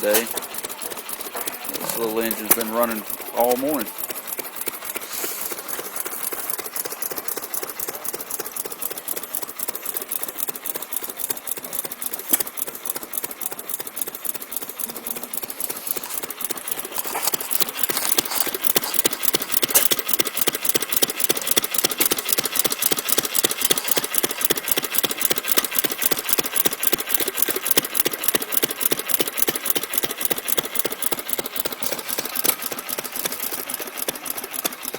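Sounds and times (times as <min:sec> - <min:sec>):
gasoline engine chugging: 0:00.0 - 0:34.9.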